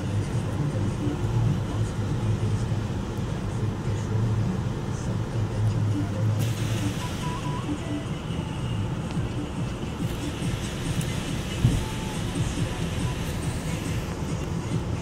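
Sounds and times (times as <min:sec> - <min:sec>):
car engine and tyres humming: 0:00.0 - 0:15.0.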